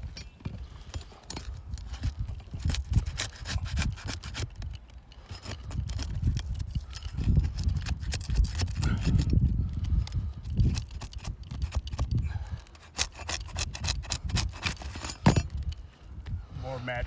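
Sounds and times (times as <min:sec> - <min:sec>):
knocks and scrapes on shingle roof: 0:00.0 - 0:15.8.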